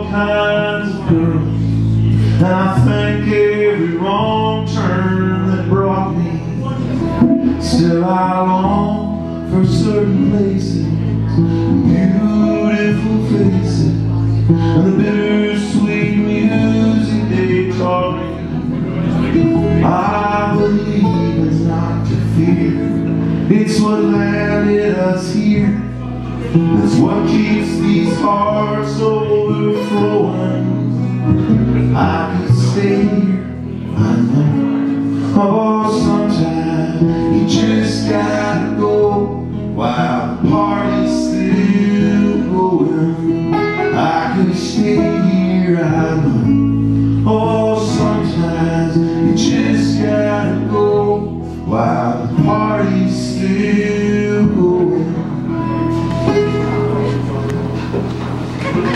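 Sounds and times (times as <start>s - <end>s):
acoustic guitar strumming: 0.0s - 58.9s
double bass: 0.0s - 58.9s
man singing: 0.0s - 58.9s.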